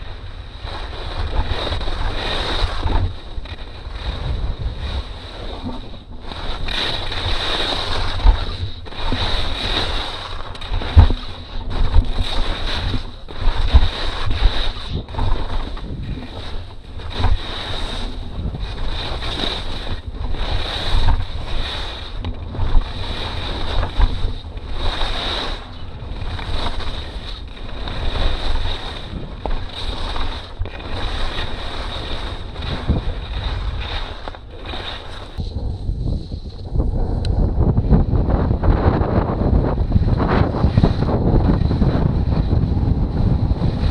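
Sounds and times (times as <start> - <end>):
skis scraping over hard snow: 0.0 - 43.9
wind buffeting microphone: 0.0 - 43.9.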